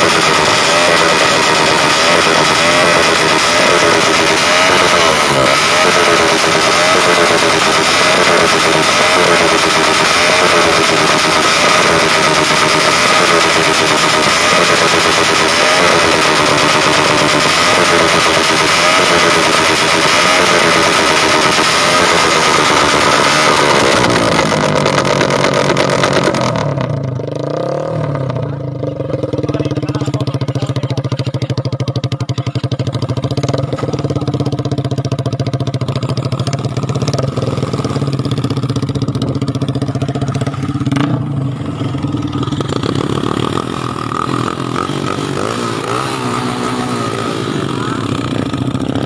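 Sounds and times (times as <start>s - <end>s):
motorcycle engine revving and idling: 0.0s - 49.0s.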